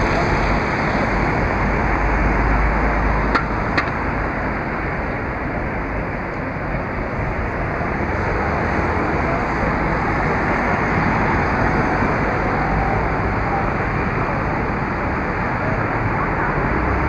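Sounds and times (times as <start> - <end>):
city road traffic: 0.0 - 17.0.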